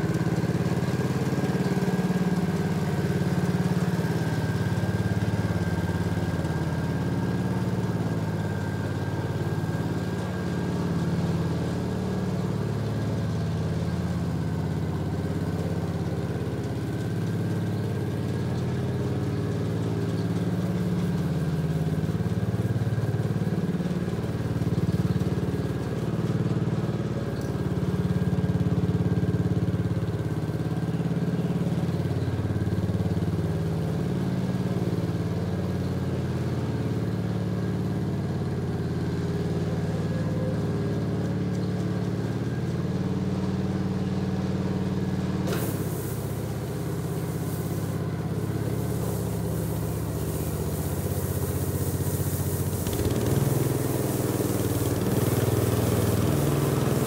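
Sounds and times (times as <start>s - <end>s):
small gas engine running: 0.0s - 57.0s.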